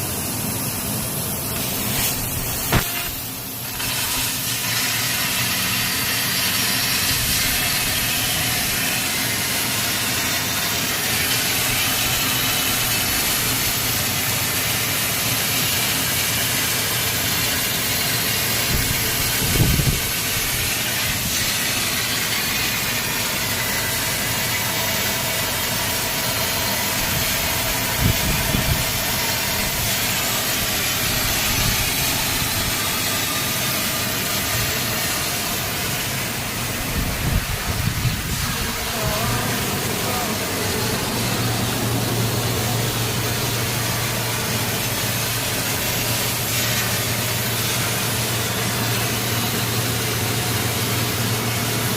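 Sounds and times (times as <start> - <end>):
laser cutter hissing: 0.0 - 51.9.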